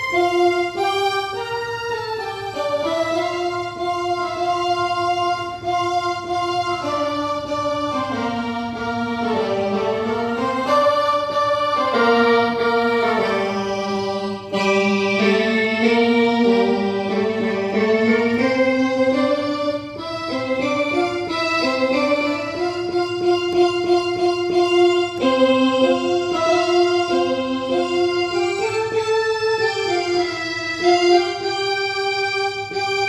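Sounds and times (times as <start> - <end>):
electronic keyboard organ melody: 0.0 - 33.0.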